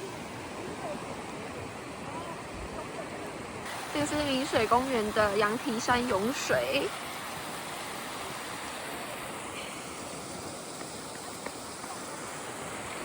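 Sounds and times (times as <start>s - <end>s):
spring water gushing: 0.0s - 13.0s.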